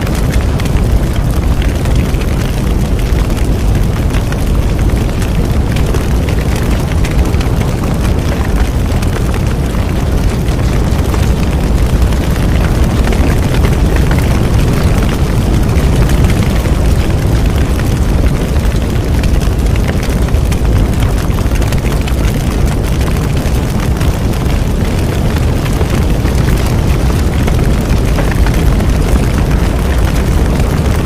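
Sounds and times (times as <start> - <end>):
bonfire flames crackling: 0.0 - 31.0.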